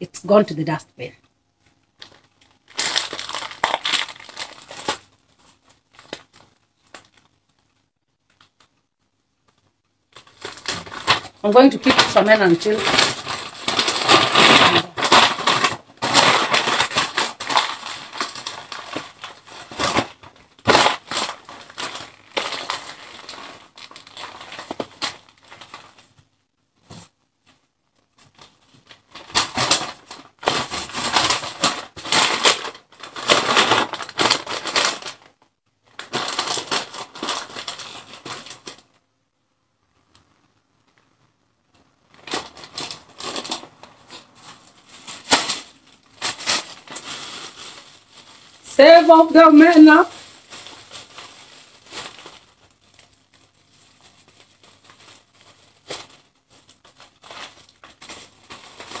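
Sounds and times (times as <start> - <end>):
paper bag crinkling: 2.0 - 8.7, 9.5 - 39.0, 41.8 - 59.0.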